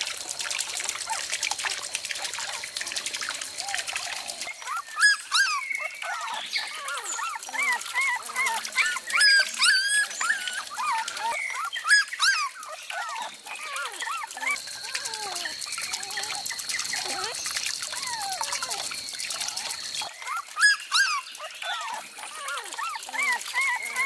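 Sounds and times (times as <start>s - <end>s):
puppies whimpering and yelping: 2.2s - 24.0s.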